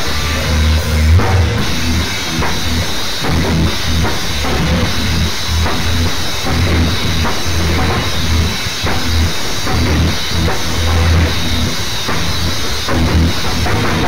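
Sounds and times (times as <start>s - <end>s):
drum kit beating: 0.0s - 14.0s
held low bass notes: 0.0s - 14.0s.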